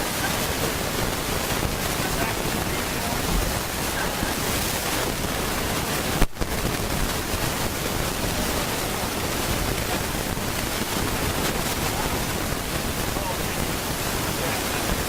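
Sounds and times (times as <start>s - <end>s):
loud recording hiss: 0.0s - 15.0s.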